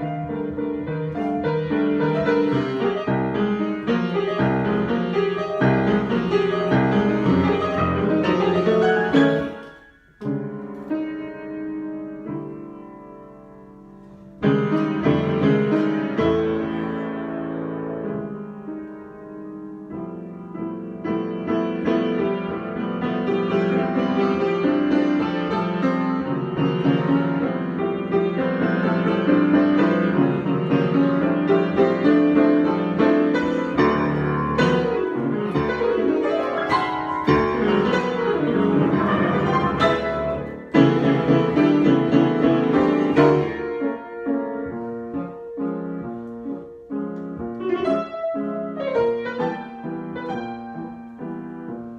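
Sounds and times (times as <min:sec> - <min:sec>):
solo piano improvisation: 0:00.0 - 0:51.9.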